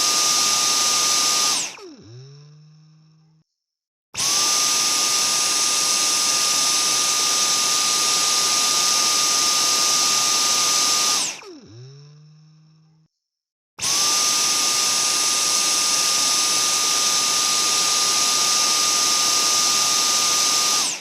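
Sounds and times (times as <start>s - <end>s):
vacuum cleaner running: 0.0s - 3.0s, 4.2s - 13.0s, 13.8s - 21.0s.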